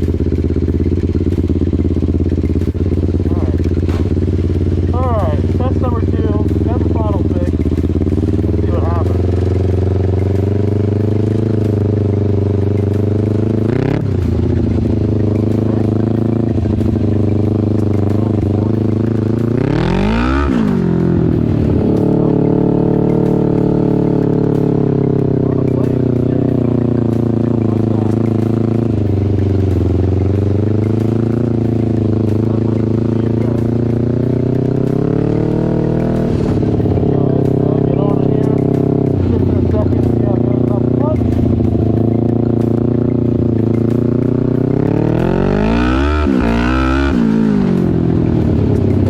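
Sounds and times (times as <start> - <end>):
small racing engine revving: 0.0 - 49.0.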